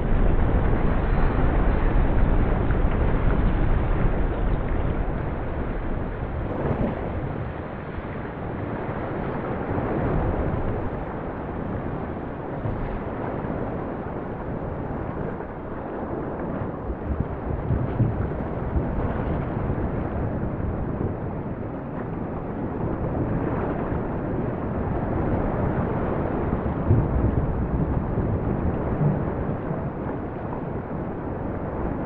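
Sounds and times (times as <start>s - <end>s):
low rumbling noise: 0.0s - 32.0s.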